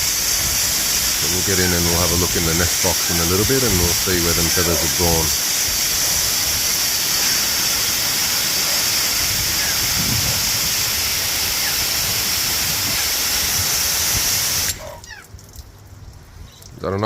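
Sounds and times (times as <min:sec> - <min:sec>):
garden hose spraying water: 0:00.0 - 0:17.0.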